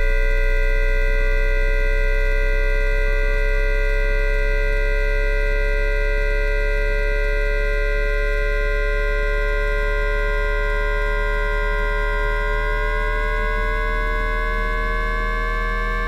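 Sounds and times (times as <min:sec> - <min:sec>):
low electrical hum: 0:00.0 - 0:15.8
electric motor inverter whine: 0:00.0 - 0:16.0.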